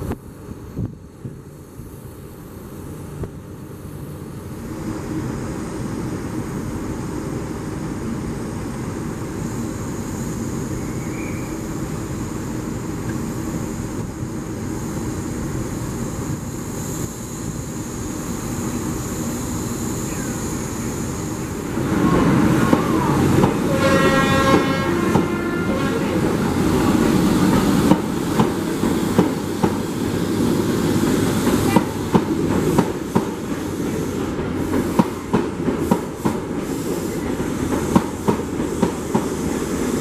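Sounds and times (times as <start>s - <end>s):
high whine: 0.0s - 33.6s
diesel trains rumbling: 0.0s - 40.0s.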